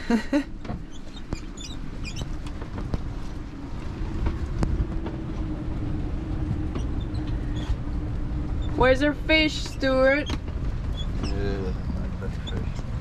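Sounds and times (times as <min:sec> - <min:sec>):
steady low hum: 0:00.0 - 0:13.0
wind rumbling on microphone: 0:00.4 - 0:13.0.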